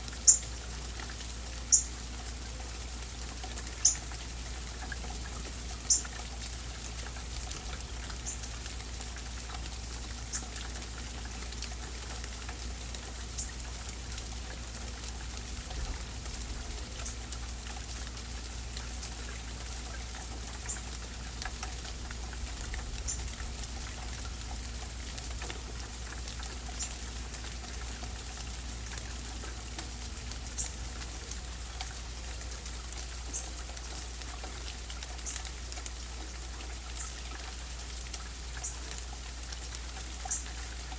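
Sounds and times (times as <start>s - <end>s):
low steady hum: 0.0s - 40.9s
steady rainfall: 0.0s - 40.9s.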